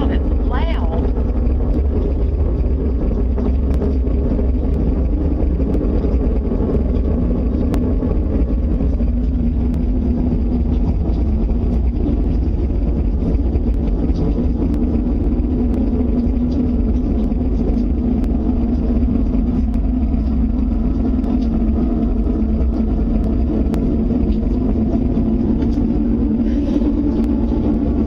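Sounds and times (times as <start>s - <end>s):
loud droning rumble: 0.0s - 28.0s.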